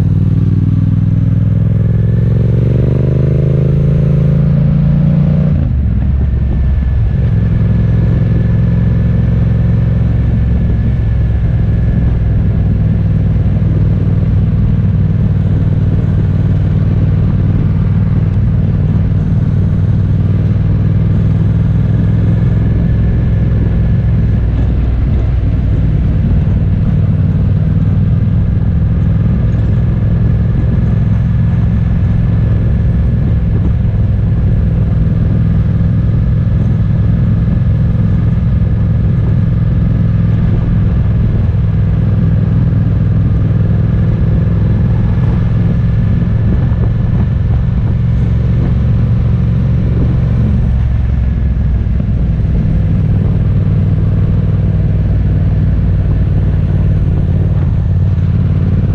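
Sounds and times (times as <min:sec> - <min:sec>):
road noise: 0:00.0 - 0:58.9
vehicle engine drone: 0:00.0 - 0:58.9.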